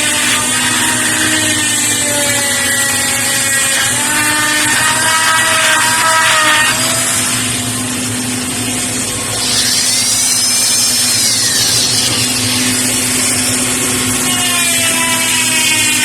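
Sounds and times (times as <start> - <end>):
power tool motor whine: 0.0 - 16.0.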